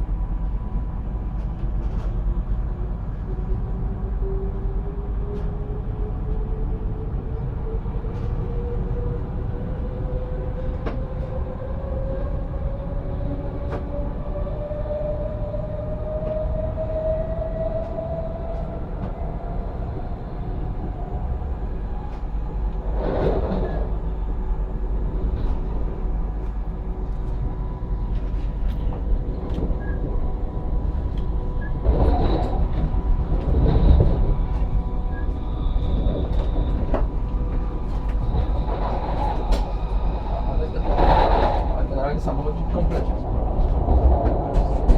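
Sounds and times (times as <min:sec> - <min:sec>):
electric train rumbling: 0:00.0 - 0:44.9.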